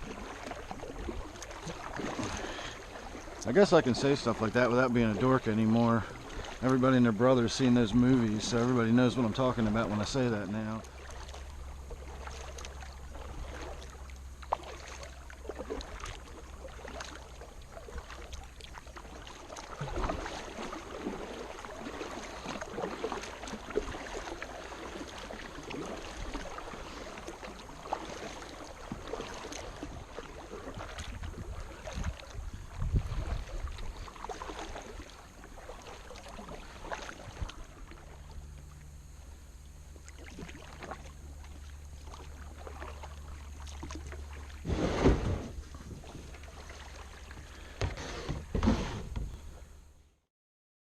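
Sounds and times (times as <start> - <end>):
paddle splashing in water: 0.0 - 49.7
water lapping against hull: 0.0 - 50.2.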